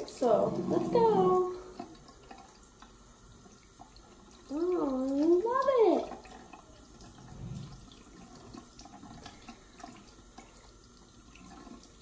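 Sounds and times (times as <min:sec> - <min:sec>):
faucet running into sink: 0:00.0 - 0:12.0.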